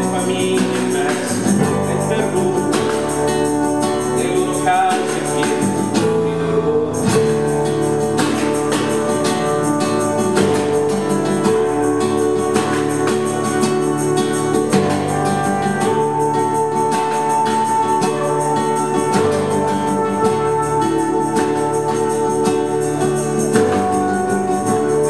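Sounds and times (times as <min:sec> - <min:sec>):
guitar strumming: 0:00.0 - 0:25.0
keyboard: 0:00.0 - 0:25.0
percussion beat: 0:00.0 - 0:25.0
person singing: 0:00.0 - 0:25.0
trumpet: 0:00.0 - 0:25.0
violin: 0:00.0 - 0:25.0.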